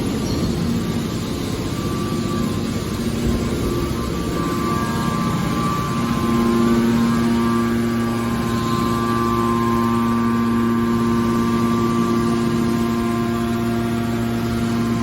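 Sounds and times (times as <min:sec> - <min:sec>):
hydraulic baler humming: 0:00.0 - 0:15.0.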